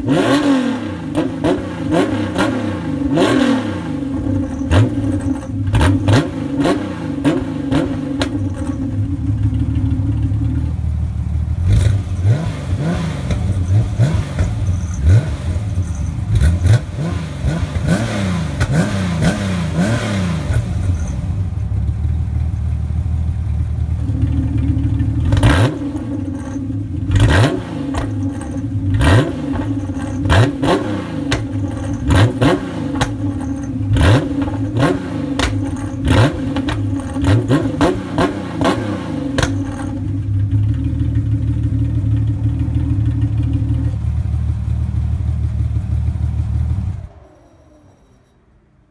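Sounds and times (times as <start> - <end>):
car engine revving: 0.0 - 48.0
steady engine drone: 0.0 - 48.4
exhaust cracks: 4.0 - 21.6, 23.9 - 47.3.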